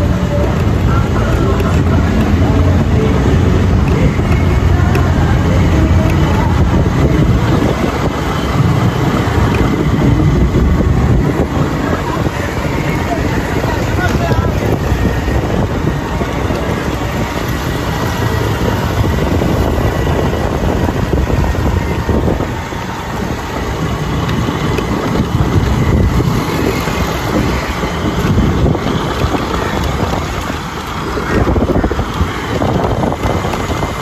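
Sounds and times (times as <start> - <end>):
motorcycle engine rumbling: 0.0 - 34.0
wind rushing over microphone: 0.0 - 34.0.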